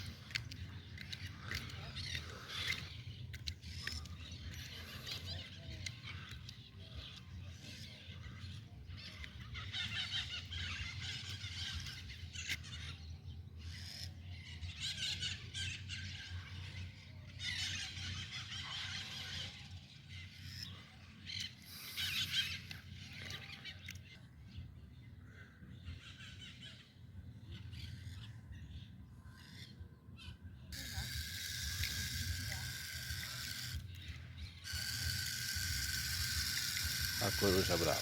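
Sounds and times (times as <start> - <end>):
birds calling in rapid high notes: 0.0 - 38.0.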